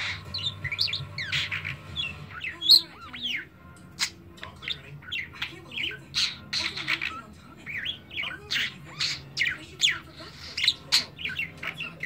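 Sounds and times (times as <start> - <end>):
budgerigar chattering: 0.0 - 12.0
budgerigar squawk: 0.0 - 12.0.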